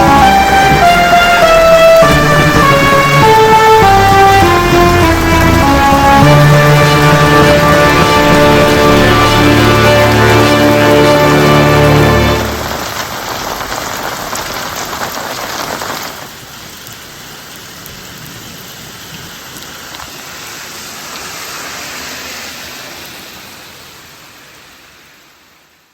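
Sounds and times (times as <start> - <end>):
rain falling: 0.0 - 25.9.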